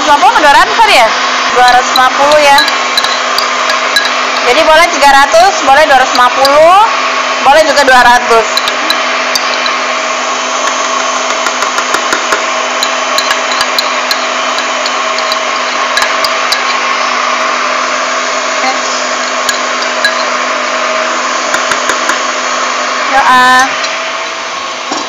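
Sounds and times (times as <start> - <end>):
stand mixer motor hum: 0.0 - 25.0.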